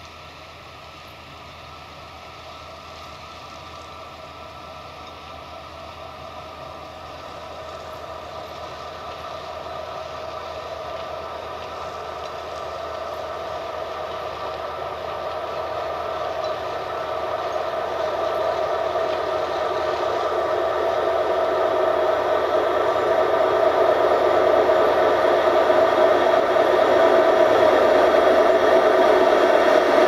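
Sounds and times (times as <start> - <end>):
electric locomotive humming: 0.0 - 30.0.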